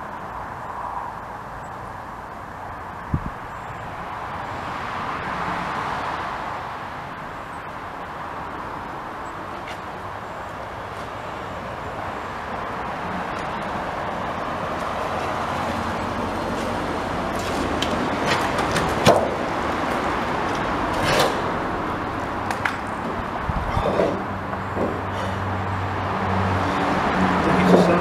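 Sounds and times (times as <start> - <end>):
road traffic rushing: 0.0 - 28.0.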